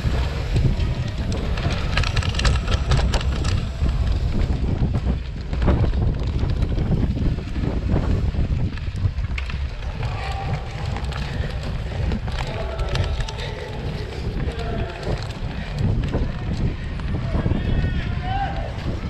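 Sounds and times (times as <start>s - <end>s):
bike tyres and frame rattling: 0.0s - 19.0s
sharp clicks and rattles: 0.0s - 19.0s
wind rumbling on microphone: 0.0s - 19.0s.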